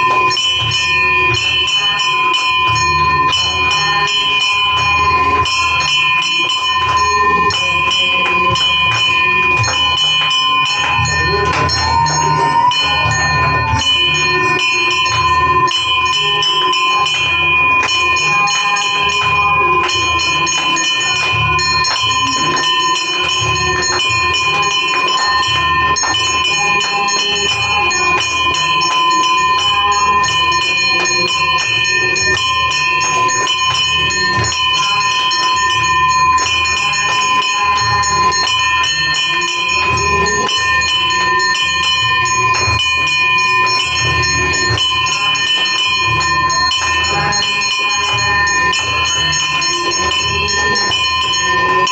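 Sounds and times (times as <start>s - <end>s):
bells ringing: 0.0s - 51.9s
fast rhythmic beat: 0.0s - 51.9s.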